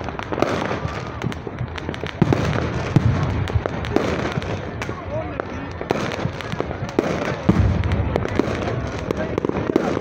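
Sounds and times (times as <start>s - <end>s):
fireworks bangs and crackling: 0.0s - 10.0s.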